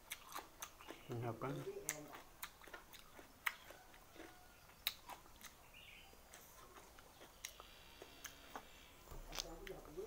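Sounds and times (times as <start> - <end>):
mouth clicks and smacks: 0.0 - 5.6, 6.3 - 9.8
person chewing food: 0.0 - 9.9.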